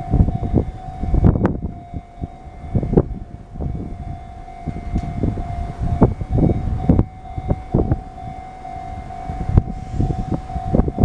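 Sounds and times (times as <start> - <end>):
train rumble with thumps: 0.0 - 11.0.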